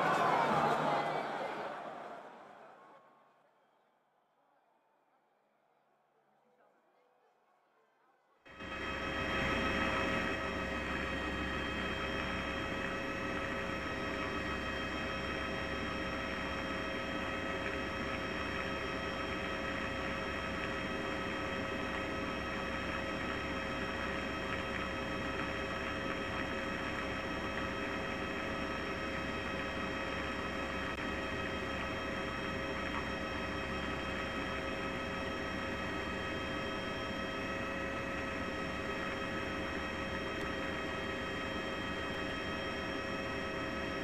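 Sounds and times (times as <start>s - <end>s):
constant noise bed: 8.5s - 44.0s
steady hum: 8.5s - 44.0s.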